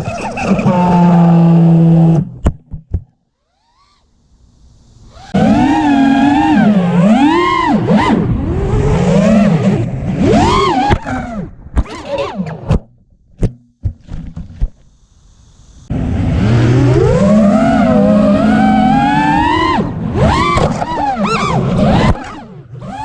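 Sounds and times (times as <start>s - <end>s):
drone motors whining: 0.0s - 2.4s, 3.4s - 12.8s, 14.6s - 23.0s.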